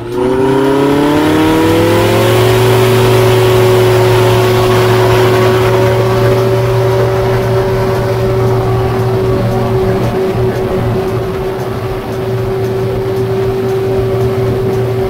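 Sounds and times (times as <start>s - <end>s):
plane engine and propeller running: 0.0s - 15.0s.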